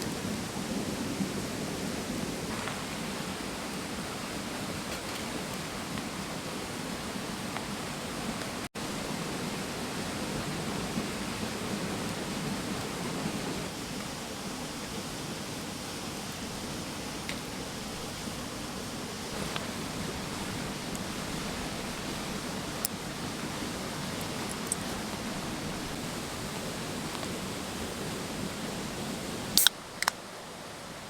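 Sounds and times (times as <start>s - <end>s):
stream running over rocks: 0.0s - 31.0s.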